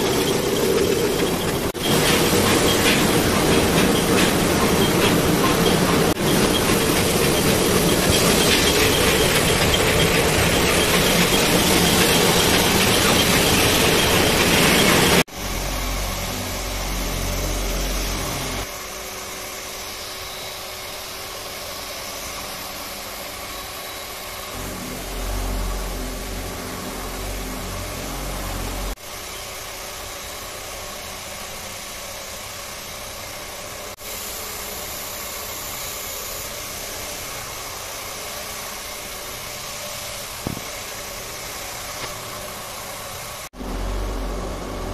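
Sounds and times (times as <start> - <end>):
yarn reeling machine running: 0.0 - 18.8, 21.0 - 44.9.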